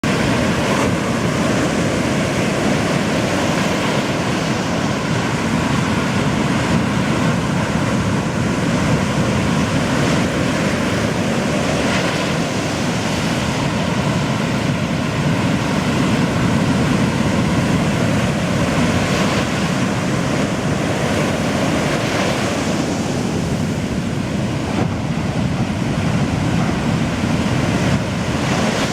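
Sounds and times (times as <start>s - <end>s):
breaking ocean surf: 0.0s - 28.9s
wind noise on microphone: 0.0s - 28.9s.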